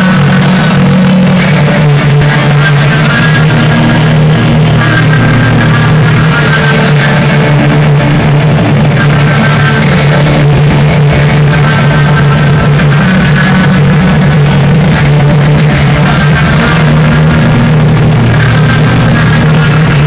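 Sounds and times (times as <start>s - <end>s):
distorted electric guitars: 0.0s - 20.0s
drums: 0.0s - 20.0s.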